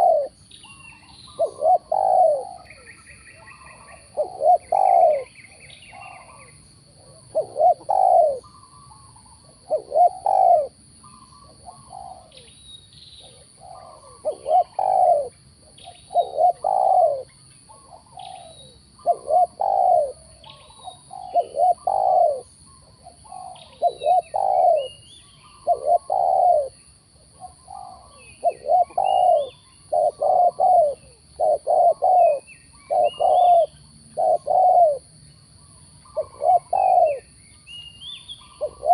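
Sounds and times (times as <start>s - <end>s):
doves cooing: 0.0s - 12.5s, 13.2s - 35.1s, 36.0s - 37.4s, 38.4s - 38.9s
small birds chirping: 0.0s - 38.9s.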